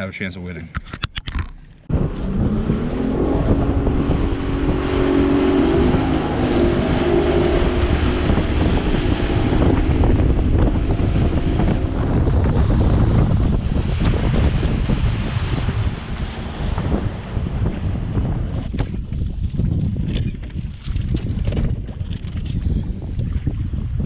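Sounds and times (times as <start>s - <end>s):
outboard motor speeding up: 1.8s - 24.0s
wind on microphone: 1.8s - 24.0s.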